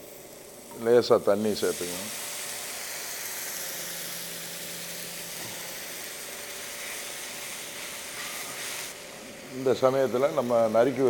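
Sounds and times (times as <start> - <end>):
sauce sizzling in a pan: 0.0 - 11.0.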